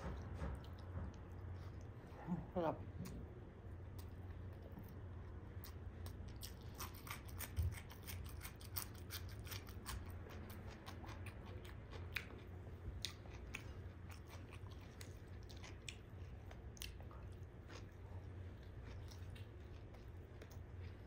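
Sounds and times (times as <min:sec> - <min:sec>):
crisp crunches of chewing cucumber: 0:03.9 - 0:21.0.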